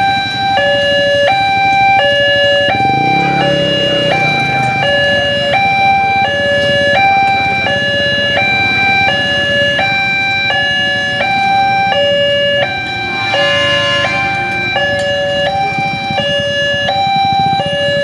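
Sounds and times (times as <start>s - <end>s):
idling traffic rumble: 0.0s - 18.0s
level crossing alarm two tones: 0.0s - 18.0s.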